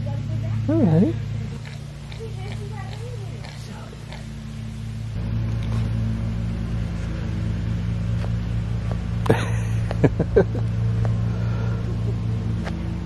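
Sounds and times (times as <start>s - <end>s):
lawnmower engine running: 0.0s - 13.0s.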